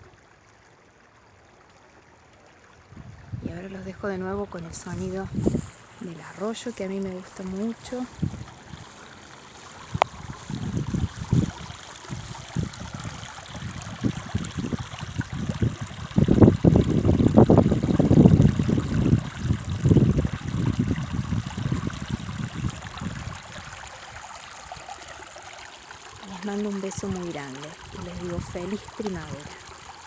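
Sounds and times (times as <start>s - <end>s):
creek water gurgling over stones: 0.0s - 30.0s.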